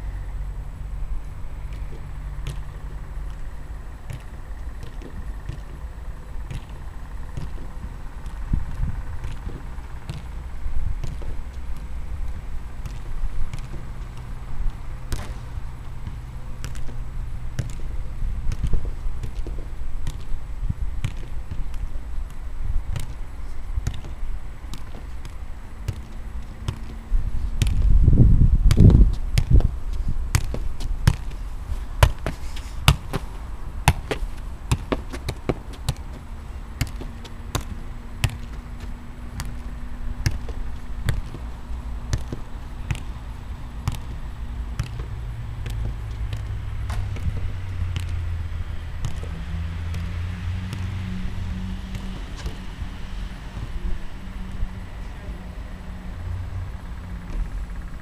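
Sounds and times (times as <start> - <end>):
football bouncing and kicked: 1.2 - 54.4, 56.7 - 58.0.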